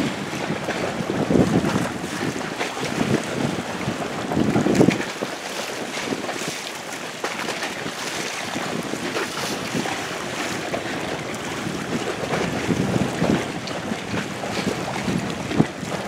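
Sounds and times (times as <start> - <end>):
waves rushing around a boat: 0.0 - 16.0
wind buffeting microphone: 0.0 - 16.0.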